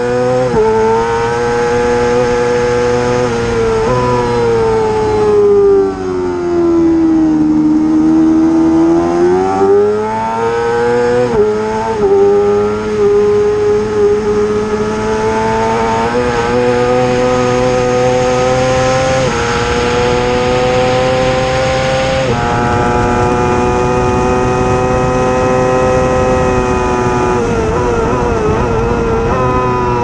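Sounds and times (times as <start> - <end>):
racing motorcycle engine revving: 0.0 - 30.0.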